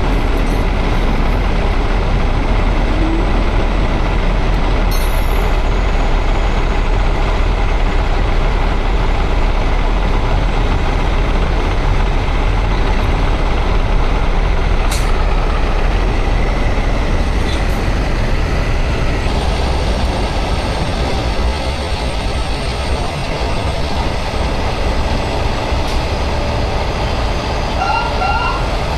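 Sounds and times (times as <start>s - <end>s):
heavy vehicle engine rumble: 0.0s - 28.9s.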